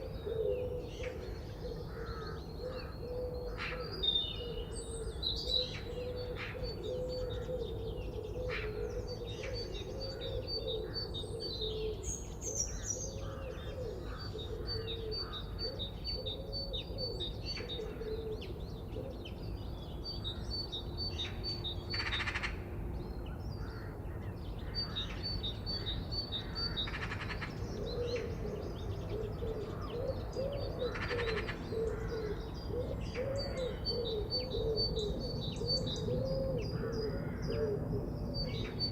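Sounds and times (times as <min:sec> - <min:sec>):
birds chirping: 0:00.0 - 0:38.9
low background noise: 0:00.0 - 0:38.9.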